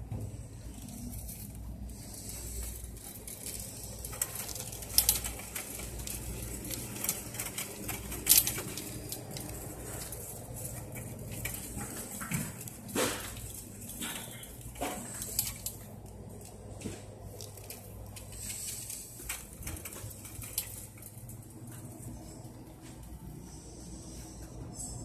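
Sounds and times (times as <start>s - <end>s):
steady low hum: 0.0s - 25.0s
shopping cart rolling on carpet: 0.4s - 25.0s
cart clicks and rattles: 0.8s - 22.2s.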